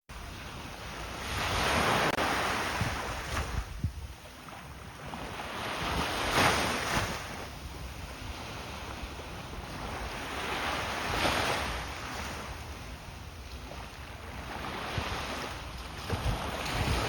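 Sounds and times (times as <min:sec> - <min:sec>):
sea waves breaking on shore: 0:00.1 - 0:17.0
wind on microphone: 0:00.1 - 0:17.0.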